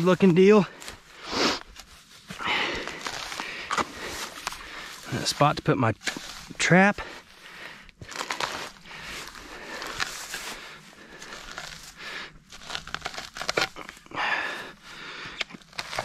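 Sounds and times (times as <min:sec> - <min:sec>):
dry grass rustling and tearing: 0:00.0 - 0:16.0.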